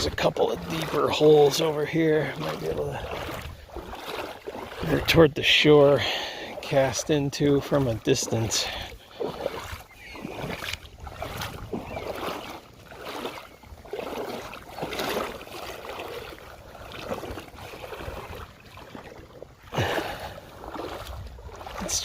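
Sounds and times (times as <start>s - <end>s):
wading through shallow water: 0.0s - 22.0s.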